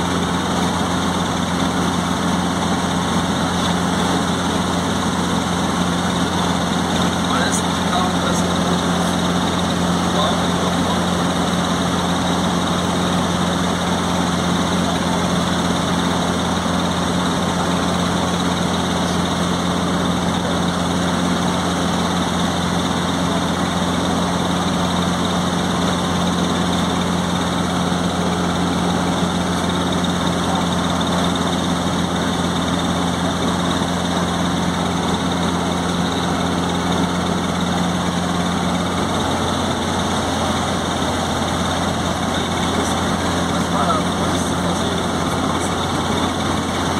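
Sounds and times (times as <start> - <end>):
helicopter engine and rotors droning: 0.0 - 46.9
steady hum: 0.0 - 46.9.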